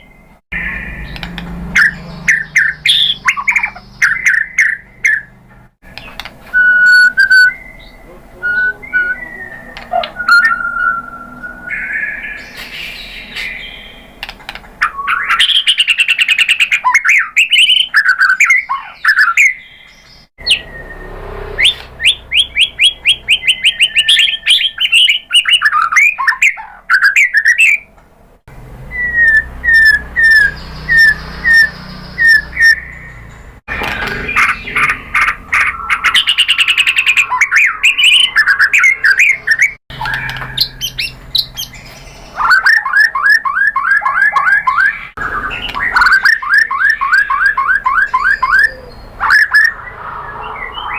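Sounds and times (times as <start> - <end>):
bird singing whistled phrases: 1.8 - 5.3, 6.0 - 14.0, 14.8 - 27.9, 28.9 - 33.2, 34.1 - 50.9.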